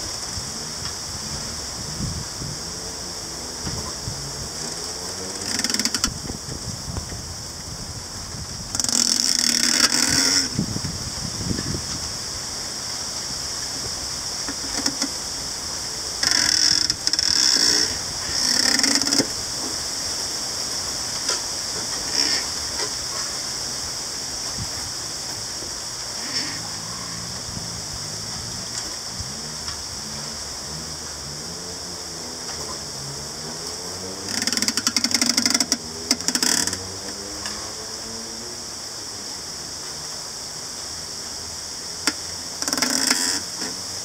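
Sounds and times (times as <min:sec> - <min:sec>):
bamboo creaking and groaning: 0:00.0 - 0:44.0
steady high hiss: 0:00.0 - 0:44.0.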